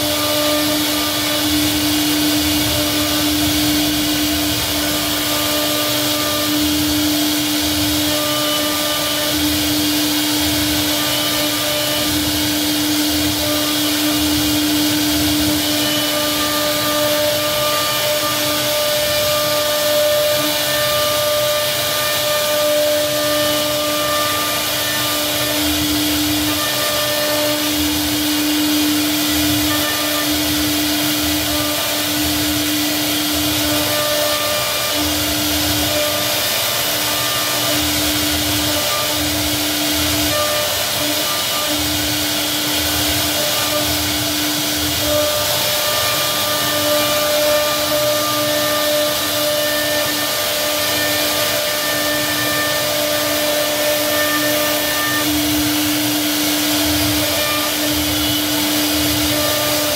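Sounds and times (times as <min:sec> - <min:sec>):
hiss of wood being cut: 0:00.0 - 0:59.9
router spindle humming: 0:00.0 - 0:59.9.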